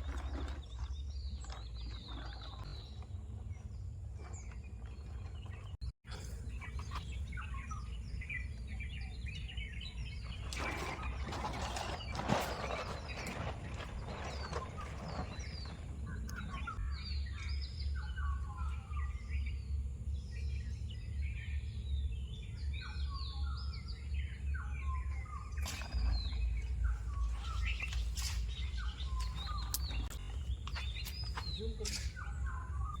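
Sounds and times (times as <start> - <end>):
small birds chirping: 0.0 - 33.0
steady low rumble: 0.0 - 33.0.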